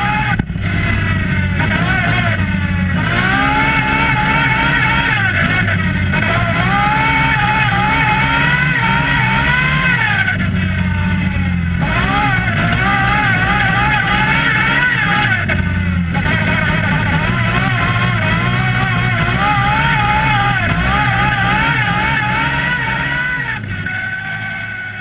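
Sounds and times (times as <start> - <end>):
quad bike engine revving: 0.0 - 25.0.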